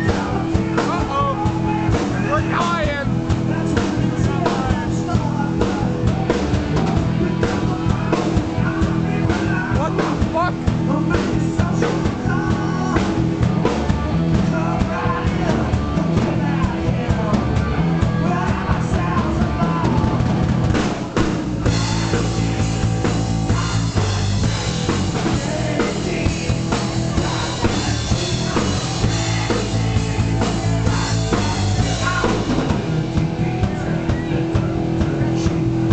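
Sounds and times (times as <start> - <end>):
live rock band playing: 0.0 - 35.9.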